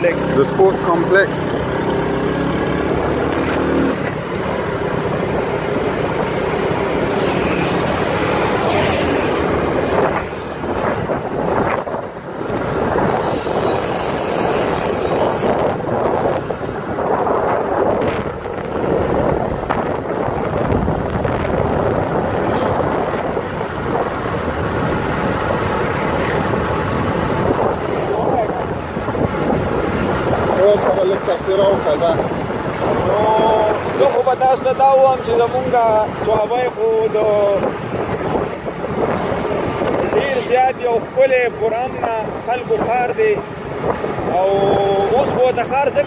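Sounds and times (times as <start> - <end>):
motorcycle engine: 0.0 - 40.4
road noise: 0.0 - 46.0
wind rushing over microphone: 0.0 - 46.0.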